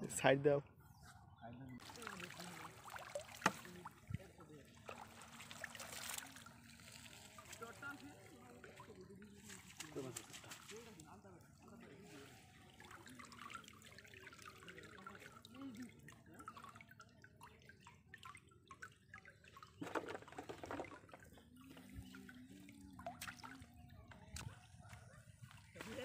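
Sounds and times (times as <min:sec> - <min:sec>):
water sloshing: 0:01.8 - 0:24.8
water dripping and trickling: 0:01.8 - 0:26.0.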